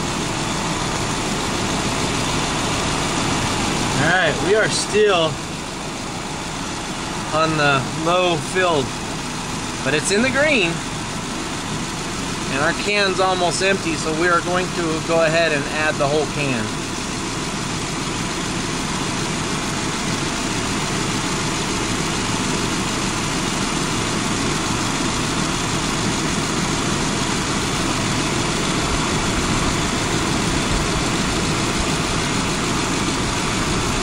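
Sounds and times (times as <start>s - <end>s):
air conditioning rushing: 0.0s - 34.0s
car engine idling: 0.0s - 34.0s.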